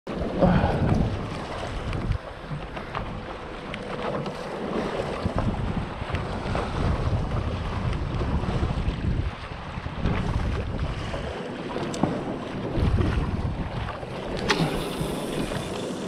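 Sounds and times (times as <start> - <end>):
sea water washing: 0.1 - 16.0
wind on microphone: 0.2 - 3.4, 4.7 - 16.0.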